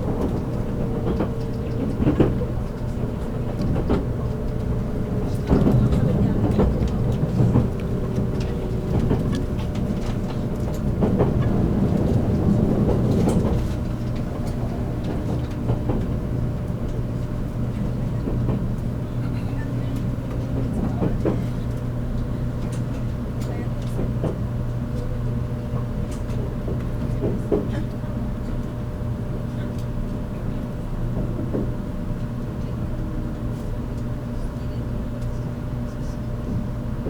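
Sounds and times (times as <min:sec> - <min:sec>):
train low rumble: 0:00.0 - 0:37.0.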